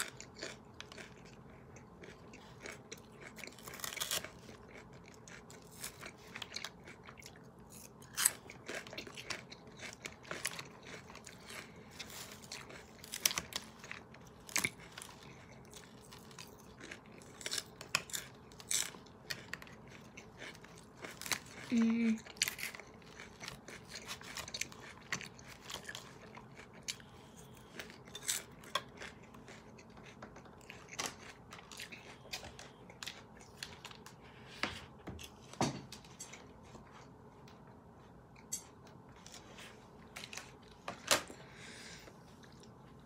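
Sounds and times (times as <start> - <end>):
chewing and crunching lettuce: 0.0 - 43.0.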